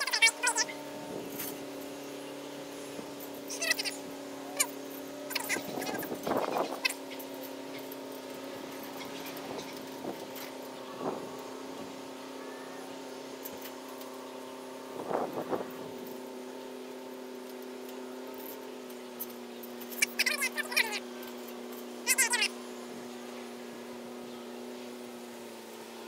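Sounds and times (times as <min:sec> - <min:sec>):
steady motor hum: 0:00.0 - 0:26.0.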